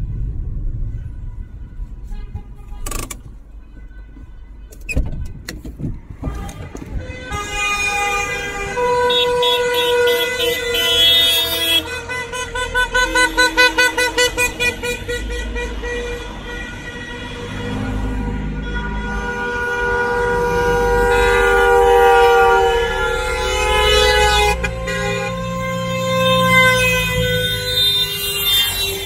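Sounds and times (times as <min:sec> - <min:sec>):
engine and tyre noise: 0:00.0 - 0:29.0
car horns honking: 0:00.9 - 0:05.6, 0:06.2 - 0:29.0.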